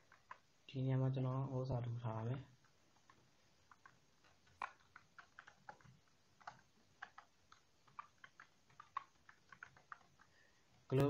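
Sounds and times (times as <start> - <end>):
keyboard typing: 0.0 - 0.5, 2.3 - 11.0.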